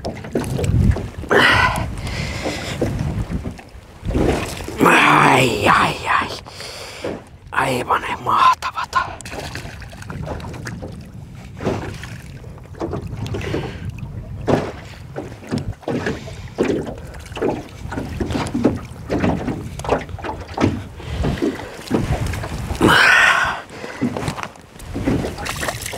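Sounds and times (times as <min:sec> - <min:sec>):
waves slapping against boat hull: 0:00.0 - 0:07.5, 0:08.7 - 0:25.9
wind buffeting microphone: 0:00.0 - 0:07.6, 0:09.1 - 0:25.9.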